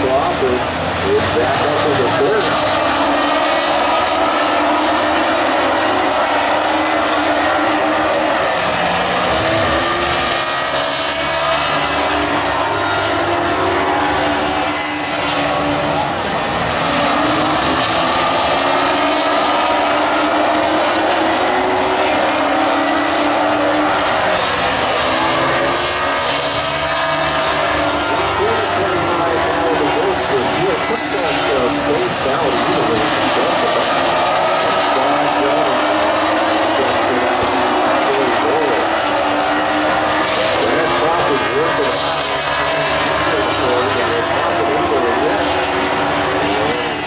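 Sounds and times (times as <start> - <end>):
race car engines running hard: 0.0 - 47.0.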